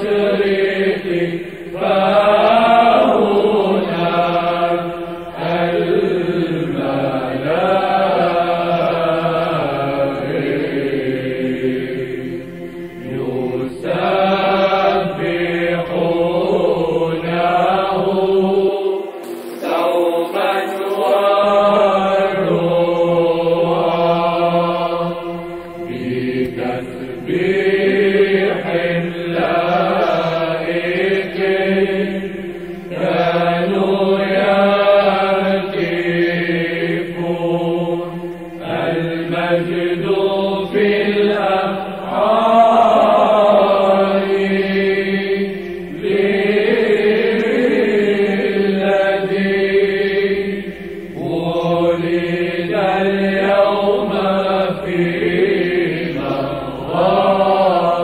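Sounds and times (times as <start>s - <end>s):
group chanting over a drone: 0.0s - 58.0s.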